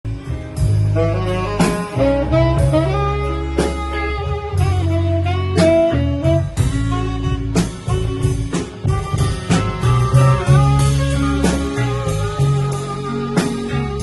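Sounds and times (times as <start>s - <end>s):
bass: 0.0s - 14.0s
drum kit: 0.0s - 14.0s
electric guitar melody: 0.1s - 14.0s
saxophone: 0.1s - 14.0s.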